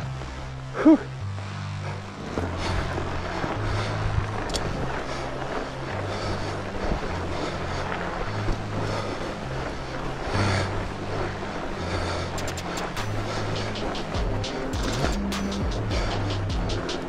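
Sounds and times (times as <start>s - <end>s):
bike tyres rolling on snow: 0.0s - 17.0s.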